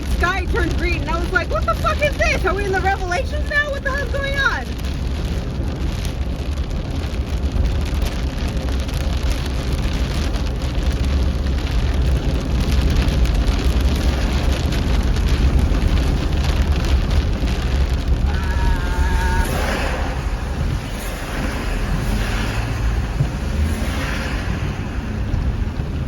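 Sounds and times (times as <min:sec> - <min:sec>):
car road rumble: 0:00.0 - 0:26.0
rain hitting car: 0:00.0 - 0:26.0.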